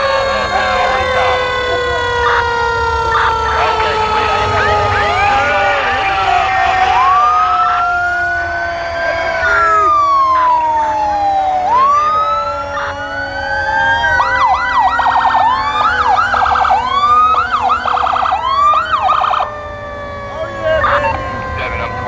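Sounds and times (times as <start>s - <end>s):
fire engine siren: 0.0s - 22.0s
steady tone sinking in pitch: 0.3s - 19.8s.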